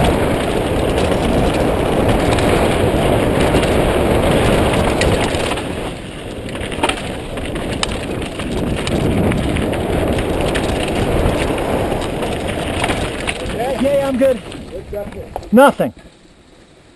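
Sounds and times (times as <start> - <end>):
wind rushing over microphone: 0.0 - 15.6
bike rattling over rock: 0.0 - 16.9.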